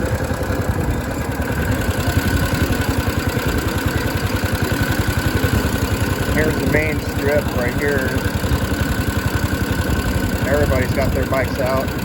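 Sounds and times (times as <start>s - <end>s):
small engine putter: 0.0s - 12.0s.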